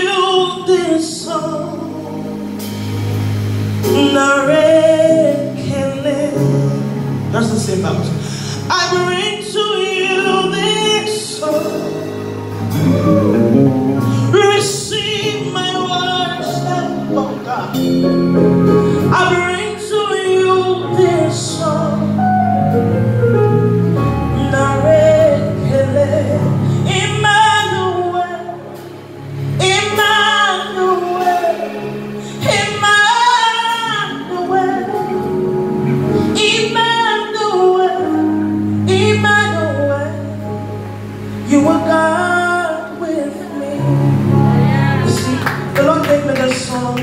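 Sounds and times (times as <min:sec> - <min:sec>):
woman singing gospel song: 0:00.0 - 0:02.8, 0:03.8 - 0:07.0, 0:08.3 - 0:13.4, 0:14.0 - 0:17.4, 0:18.8 - 0:22.2, 0:24.2 - 0:40.6, 0:41.4 - 0:47.0
low accompaniment notes: 0:00.0 - 0:47.0.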